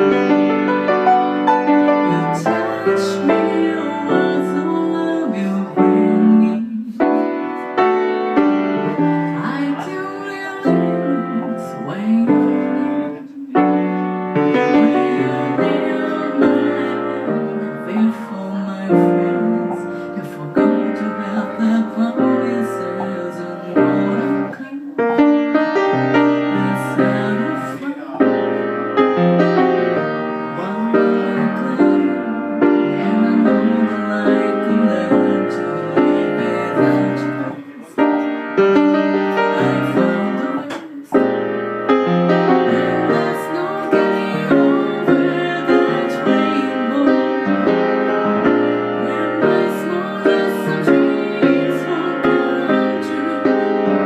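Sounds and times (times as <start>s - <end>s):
slow piano chords: 0.0s - 54.0s.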